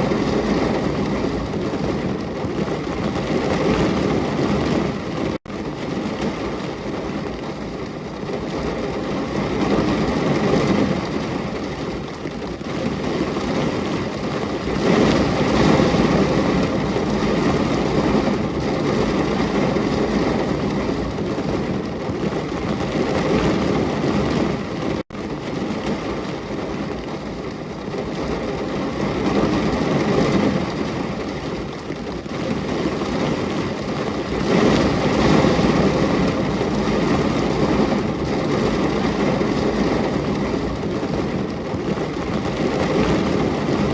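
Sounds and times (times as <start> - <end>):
heavy rainfall: 0.0 - 43.9.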